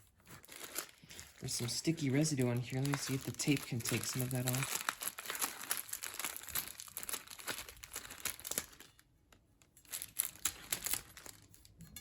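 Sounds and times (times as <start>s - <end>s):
adhesive tape crackling: 0.0s - 9.0s, 9.8s - 11.7s.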